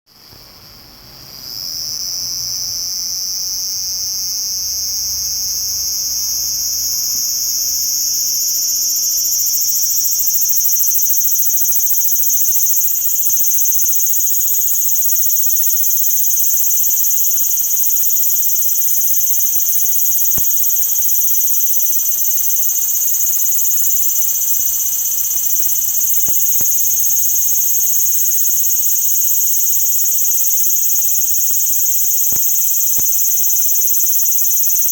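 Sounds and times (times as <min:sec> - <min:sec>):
cicadas buzzing: 0:00.2 - 0:34.9.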